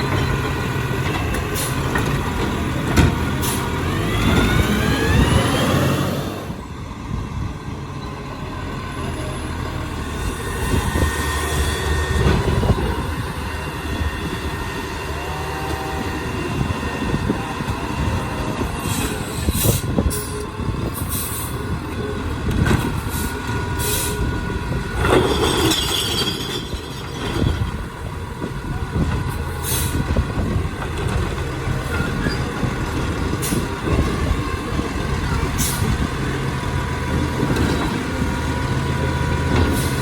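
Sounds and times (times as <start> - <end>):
garbage truck engine running: 0.0 - 40.0.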